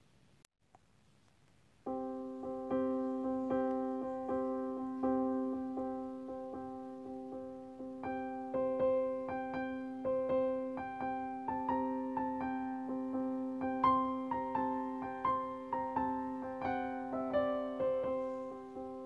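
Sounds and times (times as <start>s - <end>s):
slow keyboard melody: 1.8s - 19.0s
held low keyboard notes: 1.9s - 19.0s.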